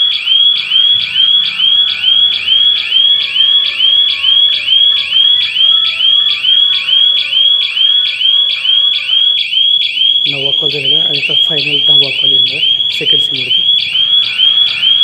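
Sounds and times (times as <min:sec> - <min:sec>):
burglar alarm siren whooping: 0:00.0 - 0:15.0.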